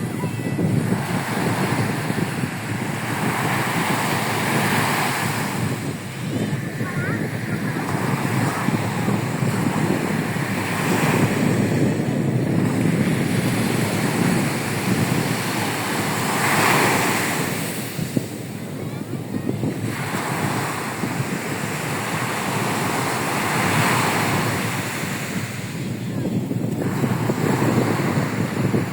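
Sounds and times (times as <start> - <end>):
stormy surf breaking on beach: 0.0 - 28.9
wind buffeting microphone: 0.0 - 28.9.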